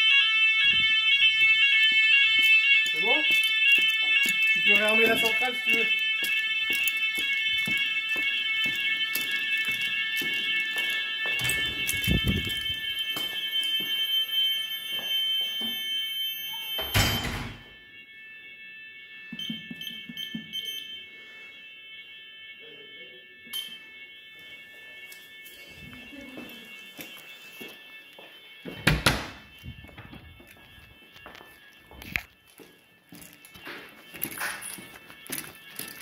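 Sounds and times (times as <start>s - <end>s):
fire alarm sounding: 0.0s - 36.0s.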